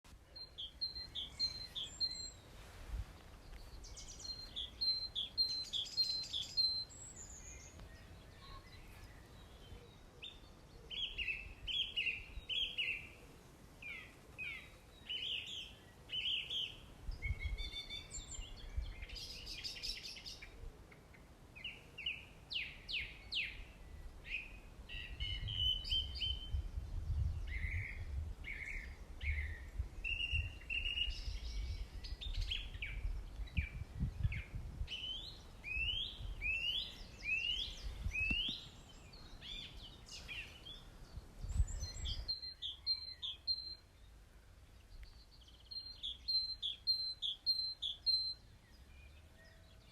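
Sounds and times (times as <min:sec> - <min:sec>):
wild birds chirping: 0:00.1 - 0:49.9.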